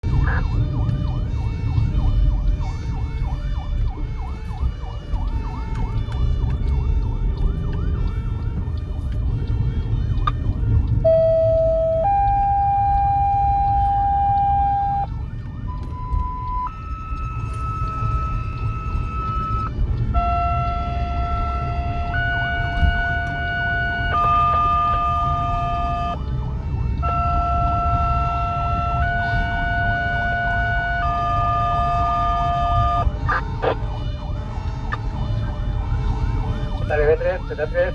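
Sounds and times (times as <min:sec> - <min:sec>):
fire engine siren: 0:00.0 - 0:37.9
low engine rumble: 0:00.0 - 0:37.9.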